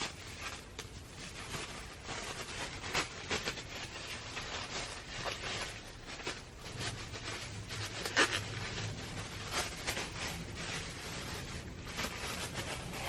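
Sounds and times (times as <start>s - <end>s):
faint low hum: 0.0s - 13.0s
packaging rustling and crinkling: 0.0s - 13.0s.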